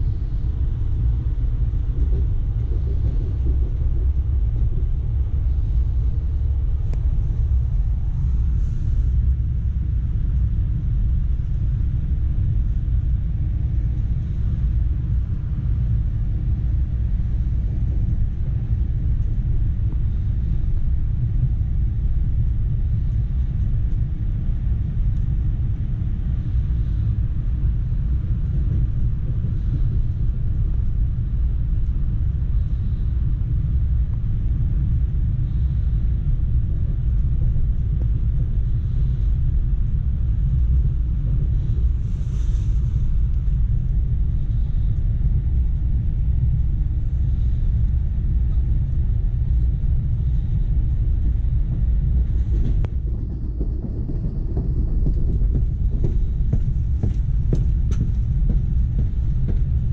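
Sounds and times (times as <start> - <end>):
faint steady hum: 0.0 - 59.9
train running low rumble: 0.0 - 59.9.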